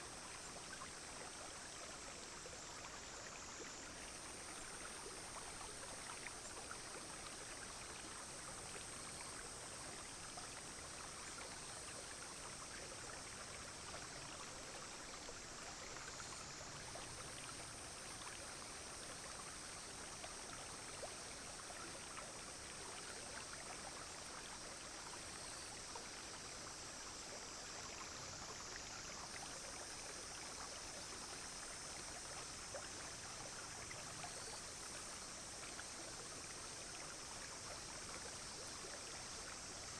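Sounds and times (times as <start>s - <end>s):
cicadas and insects droning: 0.0s - 39.9s
stream flowing: 0.0s - 39.9s.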